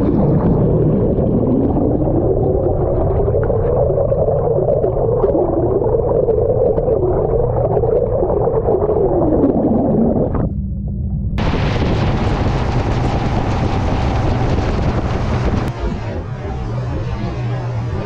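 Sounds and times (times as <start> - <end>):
muffled underwater boat engine: 0.0 - 18.0.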